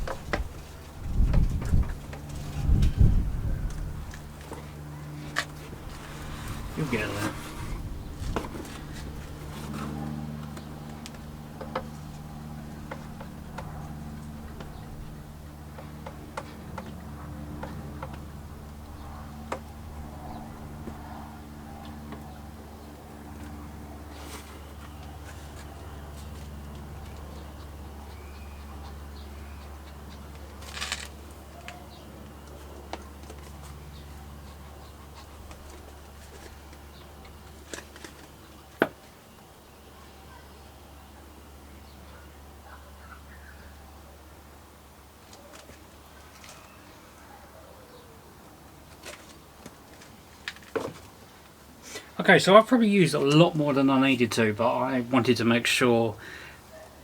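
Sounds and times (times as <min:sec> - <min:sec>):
steady low hum: 0:00.0 - 0:47.2.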